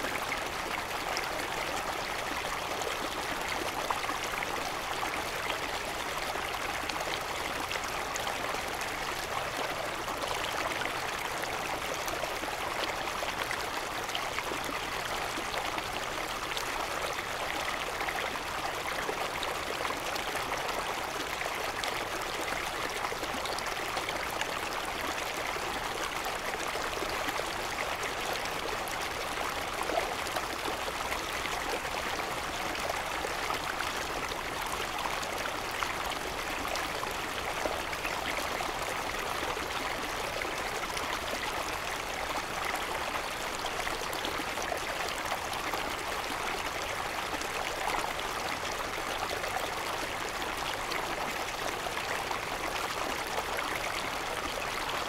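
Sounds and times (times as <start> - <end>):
stream running water: 0.0 - 55.0.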